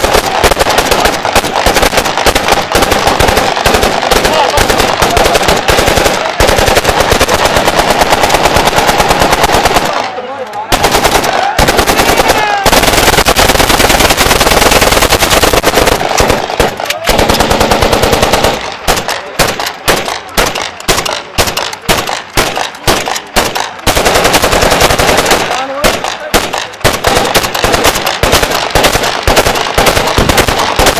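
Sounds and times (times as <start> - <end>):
automatic gunfire bursts: 0.0 - 30.9
single gunshots: 0.0 - 30.9.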